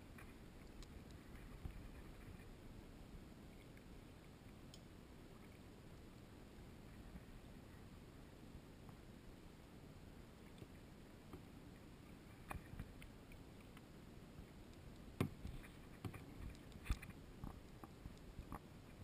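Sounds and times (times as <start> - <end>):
faint low steady noise: 0.0 - 19.0.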